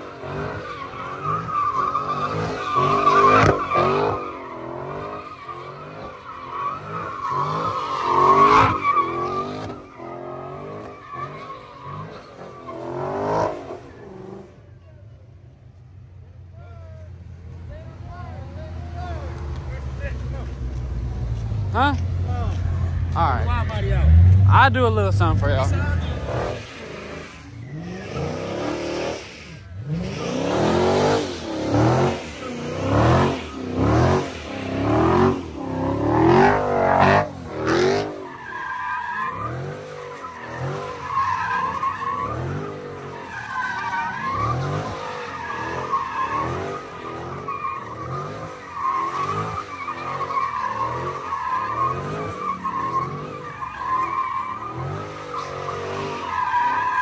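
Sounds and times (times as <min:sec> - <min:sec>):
car engine revving: 0:00.0 - 0:14.6, 0:17.6 - 0:57.0
tire squeal: 0:00.0 - 0:15.5, 0:16.4 - 0:57.0.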